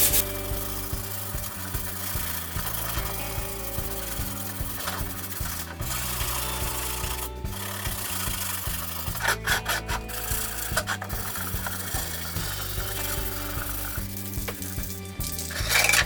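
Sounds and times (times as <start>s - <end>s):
background music with bass line: 0.0s - 16.0s
hand abrasive rasping strokes: 0.0s - 16.0s.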